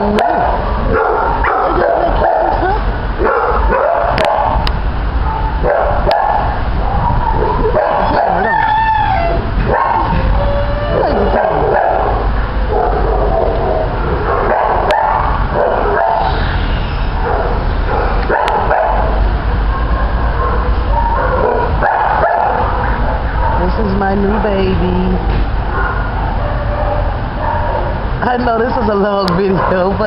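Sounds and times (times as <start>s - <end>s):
dogs barking and yipping: 0.0s - 28.2s, 29.3s - 30.0s.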